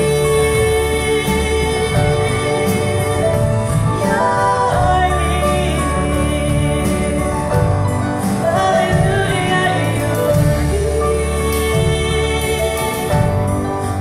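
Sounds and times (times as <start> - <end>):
band with guitars and drums: 0.0 - 14.0
women singing: 0.0 - 14.0.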